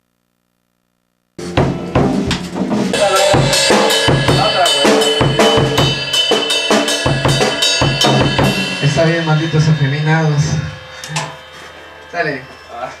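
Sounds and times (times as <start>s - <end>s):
drum kit beat: 1.4s - 13.0s
pitched instruments: 1.4s - 13.0s.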